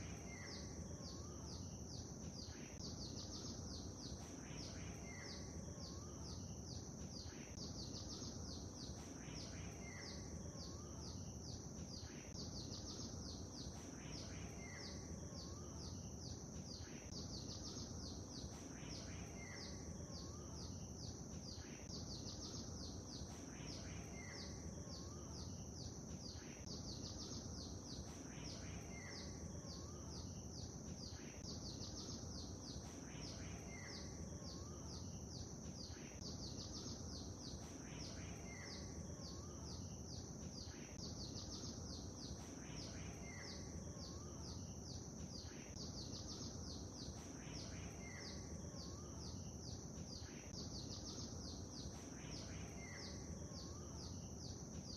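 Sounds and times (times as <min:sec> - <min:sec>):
birds chirping and singing: 0:00.0 - 0:54.9.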